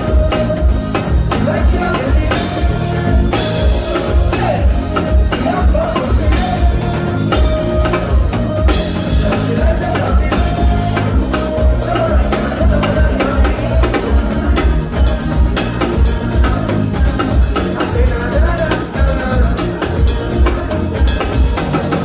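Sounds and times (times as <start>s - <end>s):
live band playing: 0.0s - 22.0s
person singing: 0.0s - 22.0s.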